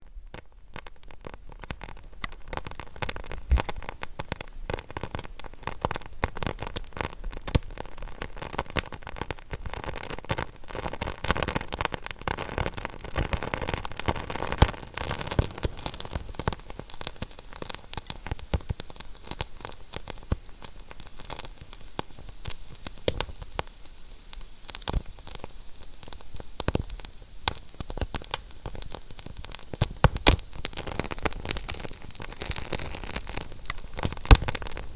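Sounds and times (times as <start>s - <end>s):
soft steady hiss: 0.0s - 34.9s
wood fire crackling and popping: 0.1s - 34.9s.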